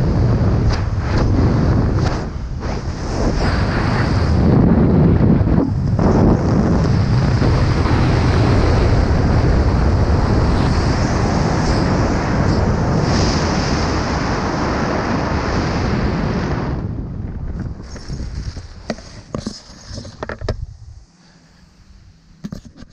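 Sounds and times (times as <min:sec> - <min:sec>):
wind buffeting microphone: 0:00.0 - 0:21.1.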